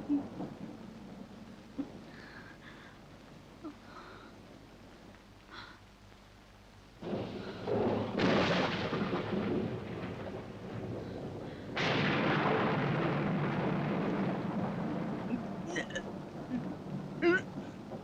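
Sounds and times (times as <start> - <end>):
rolling thunderclaps: 0.0 - 3.6, 6.9 - 18.0
rain: 0.0 - 18.0.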